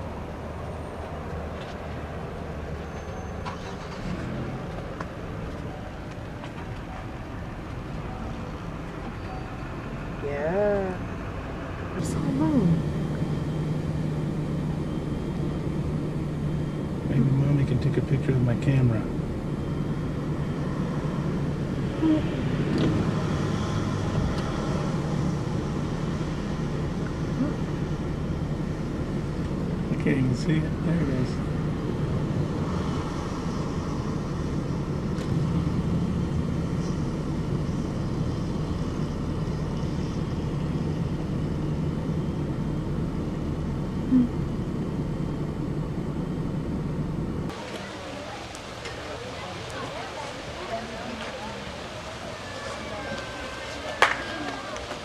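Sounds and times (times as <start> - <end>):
low vehicle rumble: 0.0 - 55.0.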